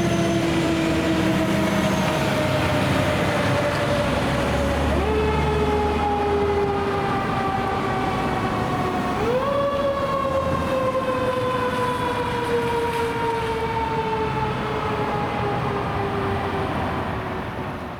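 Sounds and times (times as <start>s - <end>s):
fire truck siren wailing: 0.0s - 17.5s.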